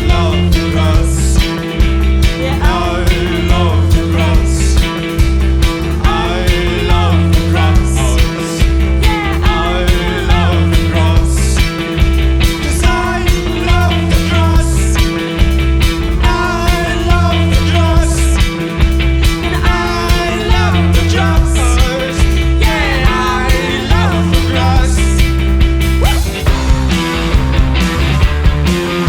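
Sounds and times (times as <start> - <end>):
bending lead guitar lines: 0.0 - 29.0
drums: 0.0 - 29.0
heavy bass line: 0.0 - 29.0.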